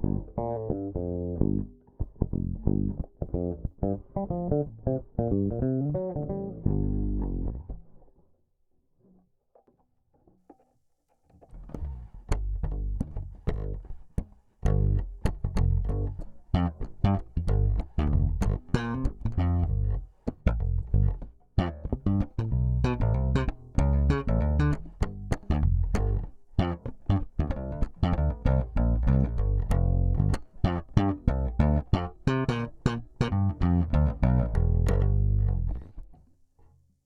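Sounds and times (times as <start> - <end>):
electric bass plucked notes: 0.0 - 7.9, 11.5 - 36.2.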